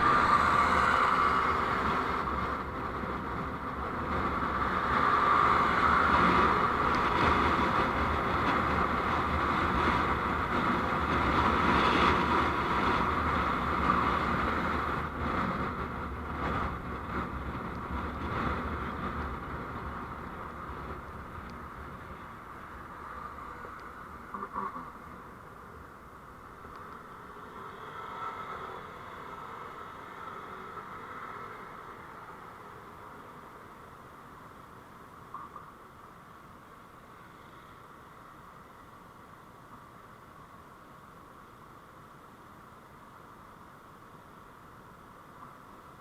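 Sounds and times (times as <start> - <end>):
vehicle road and engine noise: 0.0 - 46.0.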